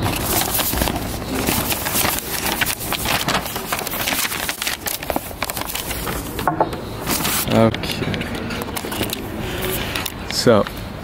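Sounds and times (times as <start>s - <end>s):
paper map crinkling: 0.0s - 10.7s.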